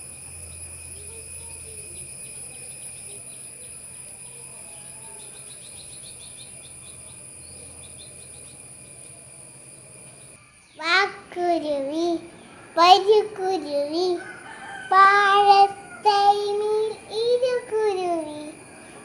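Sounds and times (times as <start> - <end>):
insect trilling: 0.0 - 19.0
small birds chirping: 0.0 - 19.0.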